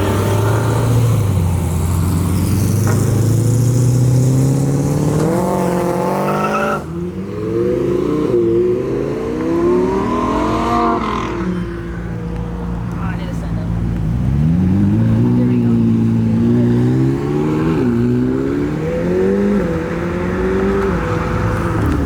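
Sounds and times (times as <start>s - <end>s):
car engine accelerating hard: 0.0s - 12.1s, 13.1s - 22.0s.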